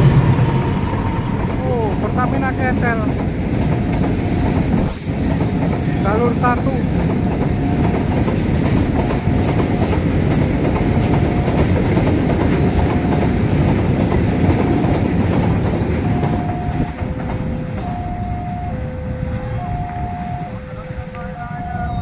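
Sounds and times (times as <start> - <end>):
level crossing warning tone: 0.0 - 13.7, 14.4 - 22.0
freight train rumbling past: 0.0 - 22.0.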